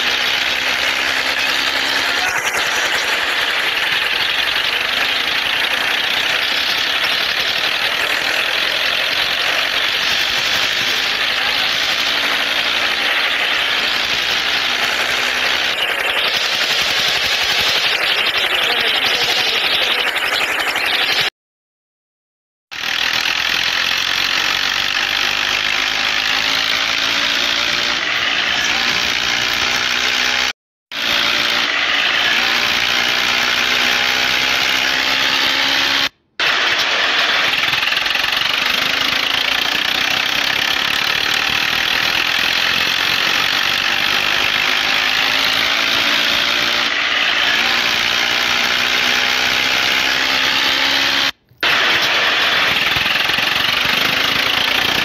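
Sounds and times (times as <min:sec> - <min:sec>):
tractor engine running: 0:00.0 - 0:21.3, 0:22.7 - 0:55.0.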